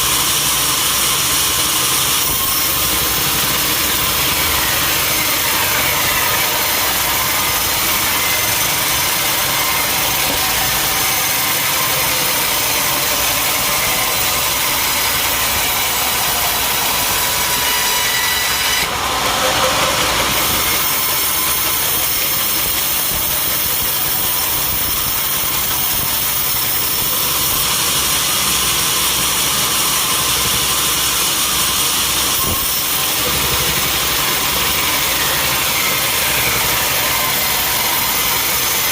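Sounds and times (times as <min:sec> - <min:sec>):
sawmill saw cutting wood: 0:00.0 - 0:38.9.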